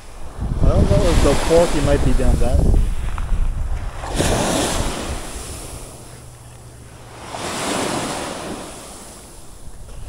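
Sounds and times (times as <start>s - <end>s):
small waves washing on sand: 0.0s - 10.0s
wind rumbling on microphone: 0.0s - 10.0s.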